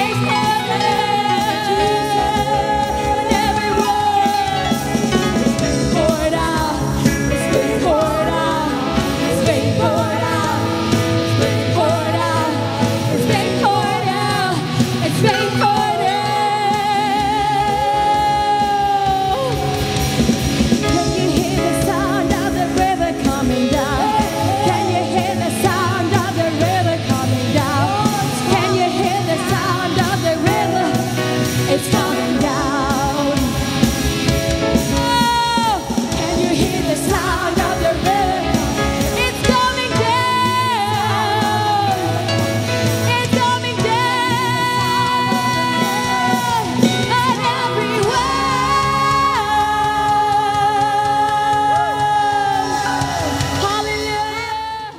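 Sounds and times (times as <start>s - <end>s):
sustained instruments: 0.0s - 49.3s
steady drum beat: 0.0s - 54.1s
person singing with vibrato: 0.0s - 54.9s.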